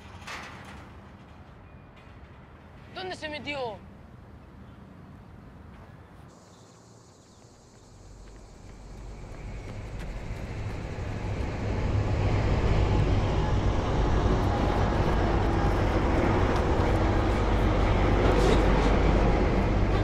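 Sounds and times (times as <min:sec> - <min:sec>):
passing train rumble: 0:00.0 - 0:06.1, 0:06.7 - 0:20.0.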